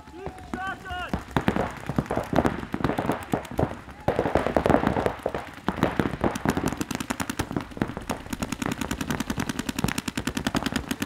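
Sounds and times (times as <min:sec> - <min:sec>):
paintball markers firing rapidly: 0:00.0 - 0:11.0.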